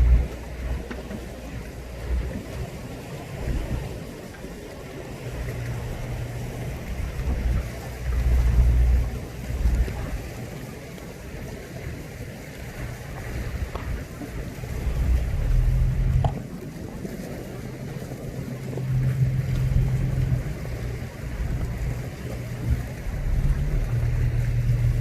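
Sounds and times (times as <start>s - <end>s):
faint sea surf: 0.0s - 25.0s
wind buffeting microphone: 0.0s - 25.0s.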